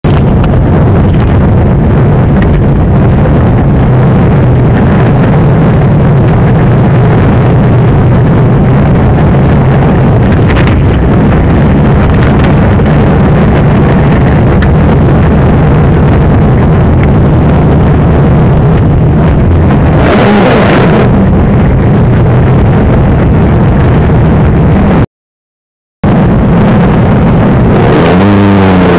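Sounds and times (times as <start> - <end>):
car engine low drone: 0.0 - 25.0, 26.0 - 28.9.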